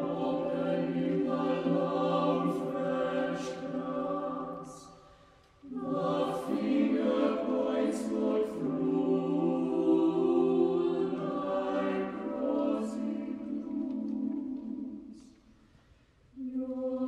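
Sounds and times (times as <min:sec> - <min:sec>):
choir singing a cappella: 0:00.0 - 0:15.6, 0:16.4 - 0:17.0.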